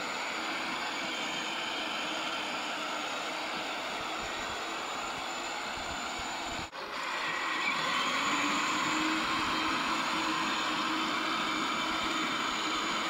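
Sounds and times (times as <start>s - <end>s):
electric motor and gearbox whine: 0.0s - 13.0s.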